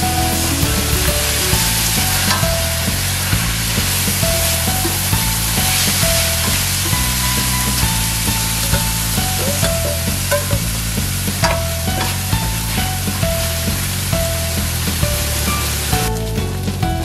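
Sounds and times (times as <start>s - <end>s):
rice sizzling in pan: 0.0s - 16.6s
soft background music: 0.0s - 17.0s.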